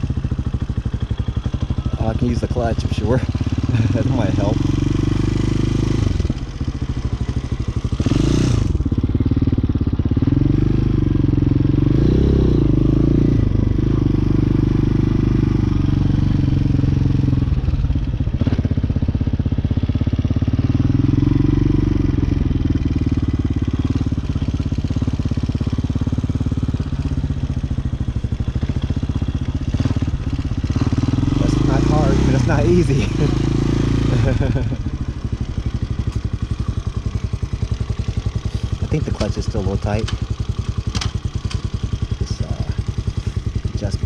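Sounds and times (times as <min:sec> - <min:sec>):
motorcycle engine at low revs: 0:00.0 - 0:44.0.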